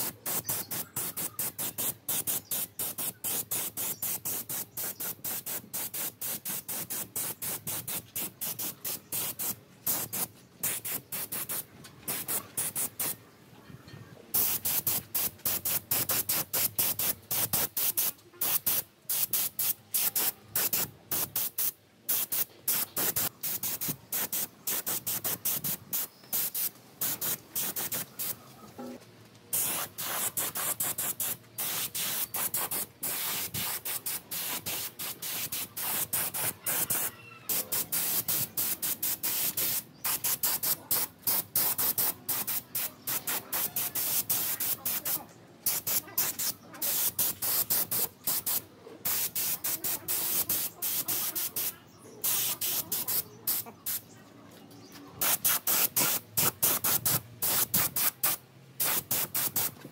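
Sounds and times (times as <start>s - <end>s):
hissing spray bursts: 0.0s - 13.2s, 14.3s - 28.4s, 29.5s - 54.1s, 55.2s - 59.9s.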